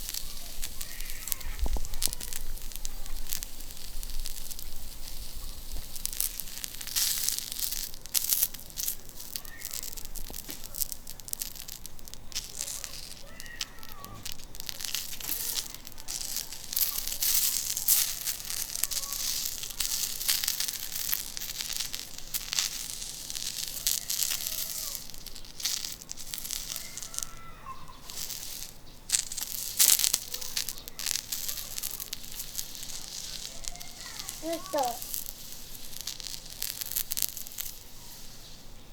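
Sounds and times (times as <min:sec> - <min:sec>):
oil popping and spattering: 0:00.0 - 0:38.6
oil and food sizzling: 0:00.0 - 0:38.9.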